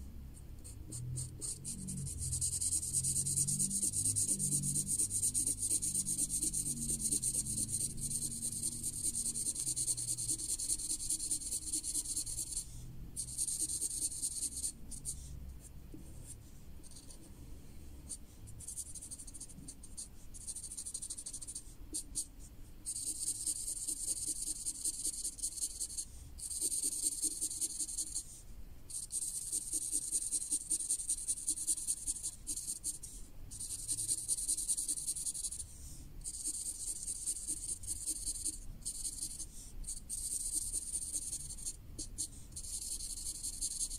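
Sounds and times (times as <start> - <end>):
felt marker scratching on paper: 0.6 - 17.4, 18.1 - 43.9.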